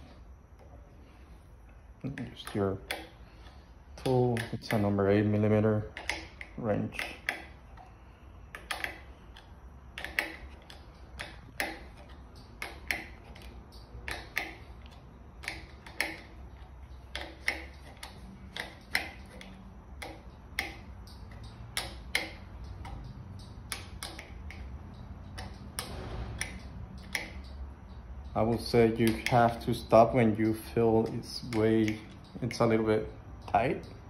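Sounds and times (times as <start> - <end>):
wrench clicking on metal bolt: 2.1 - 7.9, 8.5 - 34.0.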